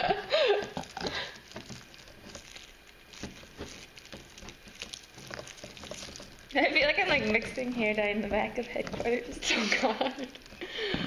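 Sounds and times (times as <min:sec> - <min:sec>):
plastic tube crinkling and clicking: 0:00.4 - 0:11.0.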